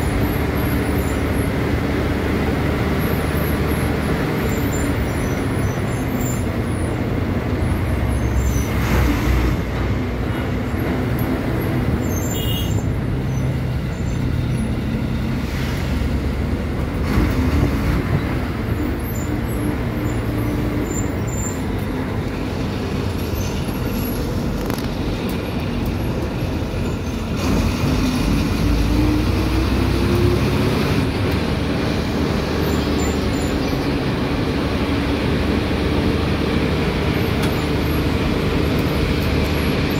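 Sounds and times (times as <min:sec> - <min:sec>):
bus diesel engine running: 0:00.0 - 0:39.9
road and cabin rumble: 0:00.0 - 0:39.9.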